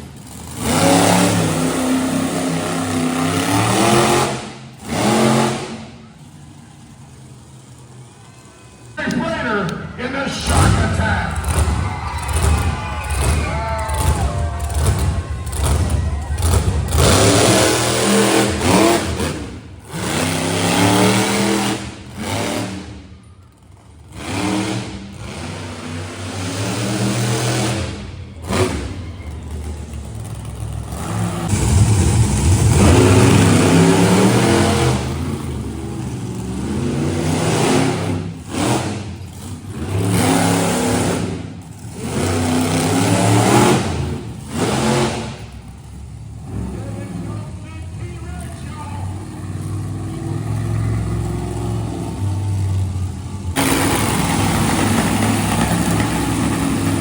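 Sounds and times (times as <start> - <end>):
truck engine revving hard: 0.0 - 6.2, 9.0 - 57.0.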